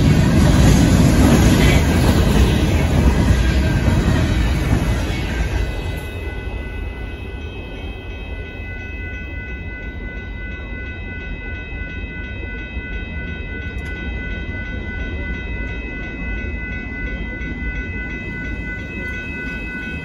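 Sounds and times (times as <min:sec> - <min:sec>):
freight train rumbling past: 0:00.0 - 0:20.0
high ringing tone: 0:00.0 - 0:20.0.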